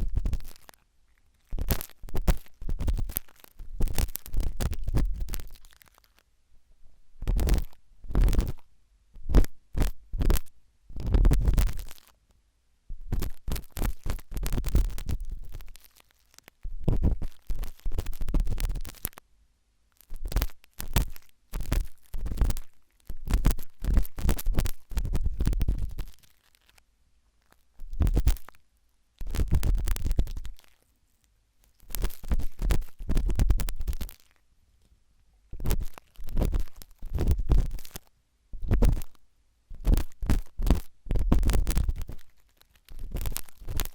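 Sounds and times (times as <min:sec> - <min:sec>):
toothpick scratching in ear: 0:00.0 - 0:06.2, 0:07.2 - 0:08.6, 0:09.3 - 0:12.2, 0:13.1 - 0:19.2, 0:20.0 - 0:26.8, 0:27.4 - 0:28.6, 0:29.2 - 0:30.8, 0:31.7 - 0:34.4, 0:35.5 - 0:43.9.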